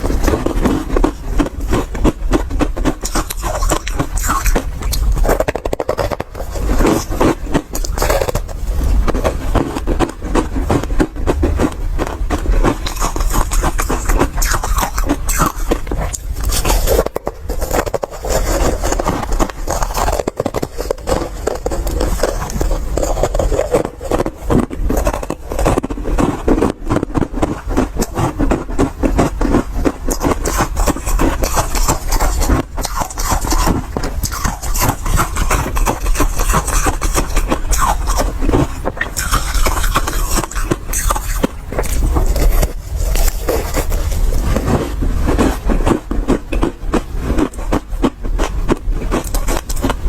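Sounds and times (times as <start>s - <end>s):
ice crunching while chewed: 0.0s - 50.0s.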